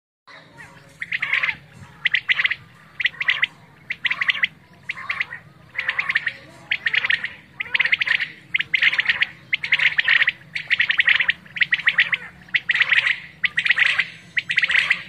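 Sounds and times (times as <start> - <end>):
quail calling: 0.3 - 15.0.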